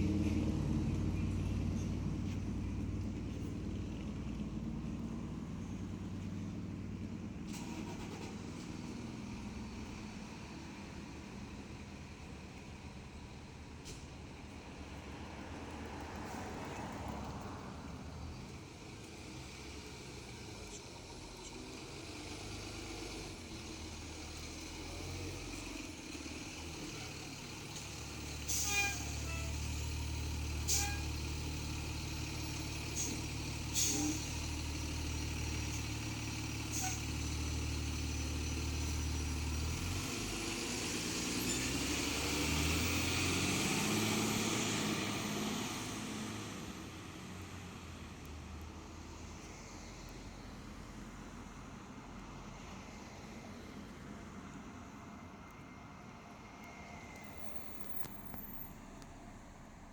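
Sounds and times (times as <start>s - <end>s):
fire engine running: 0.0s - 55.0s.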